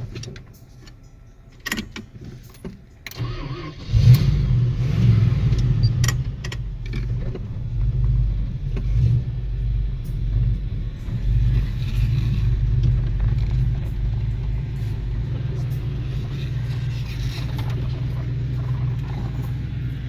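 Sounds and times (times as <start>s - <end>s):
truck engine starting and running: 0.0s - 20.0s.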